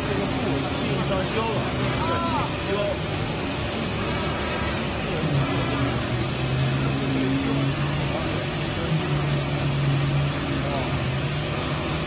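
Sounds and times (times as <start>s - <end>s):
cutting machine running: 0.0s - 12.0s.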